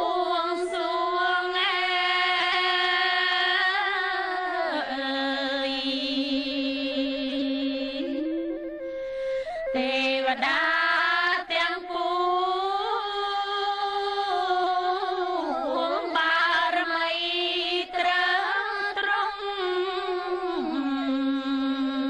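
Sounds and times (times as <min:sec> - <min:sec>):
person singing slow song: 0:00.0 - 0:22.0.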